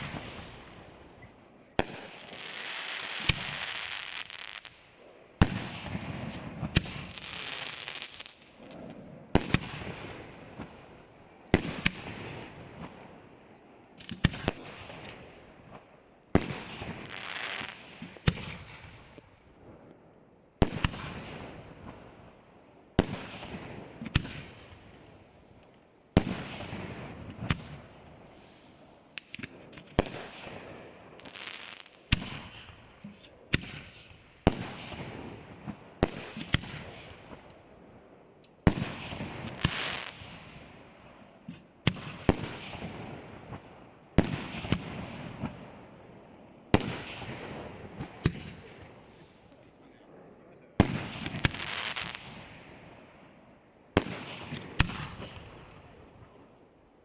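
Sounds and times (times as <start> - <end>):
crackling echoing tail: 0.0 - 57.0.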